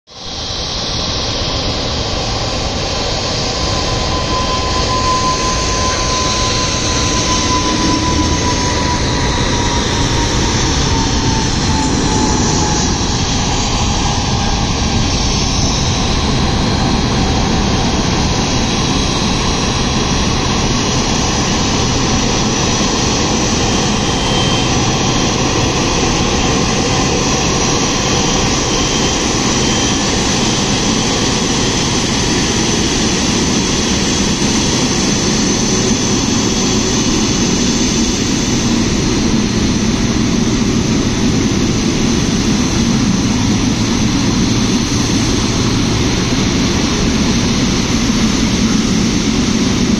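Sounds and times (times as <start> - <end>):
jet engines rushing and whining: 0.1 - 49.9.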